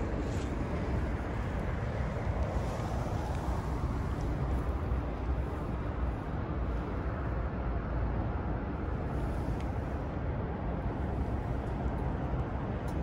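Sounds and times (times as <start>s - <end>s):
steady low rumbling: 0.0s - 13.0s.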